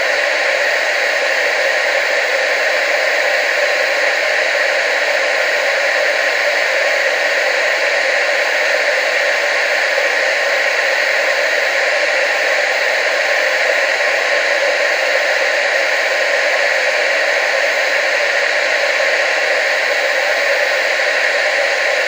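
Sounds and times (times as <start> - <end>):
television static hiss: 0.0 - 22.0.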